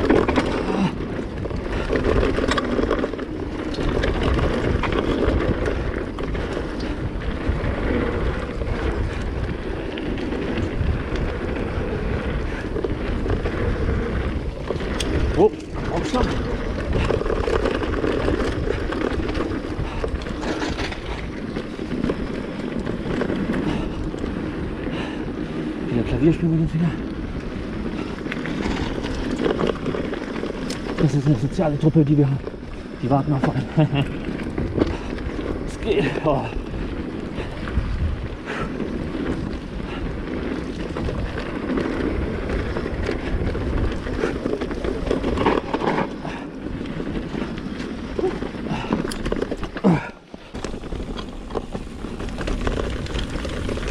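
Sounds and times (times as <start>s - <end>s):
bike rattling and knocking: 0.0s - 53.9s
bike tyres rumbling on trail: 0.0s - 53.9s
wind on microphone: 0.0s - 53.9s.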